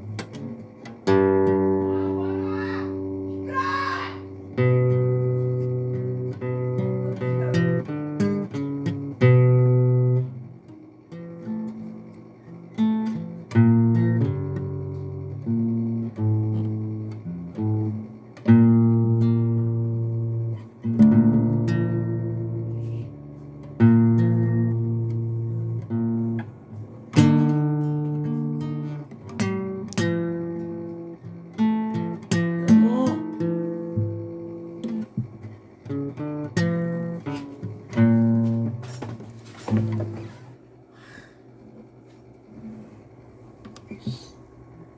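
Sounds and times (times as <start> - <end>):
acoustic guitar chords: 0.0 - 44.9.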